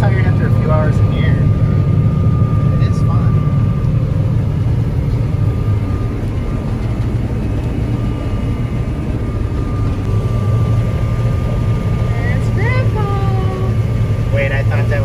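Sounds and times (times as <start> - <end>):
harvester engine drone: 0.0 - 15.0.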